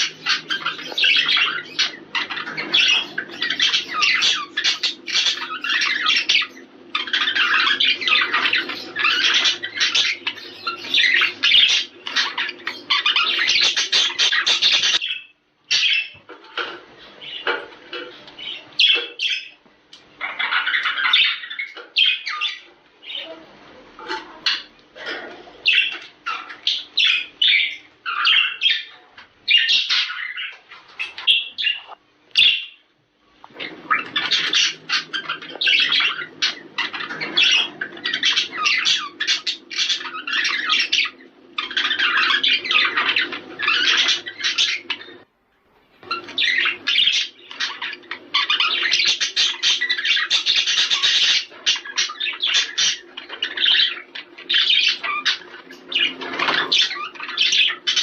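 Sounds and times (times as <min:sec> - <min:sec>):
budgerigars chattering: 0:00.0 - 0:19.6, 0:20.2 - 0:23.4, 0:24.0 - 0:32.8, 0:33.4 - 0:45.3, 0:46.0 - 0:58.0.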